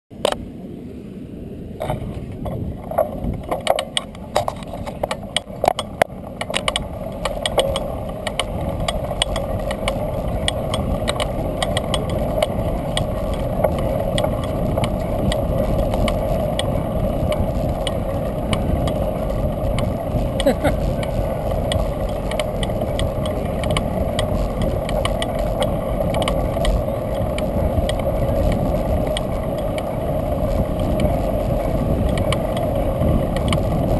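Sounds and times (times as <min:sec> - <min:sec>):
bicycle rolling on concrete: 0:01.8 - 0:33.9
sharp clicks and ticks: 0:03.4 - 0:33.9.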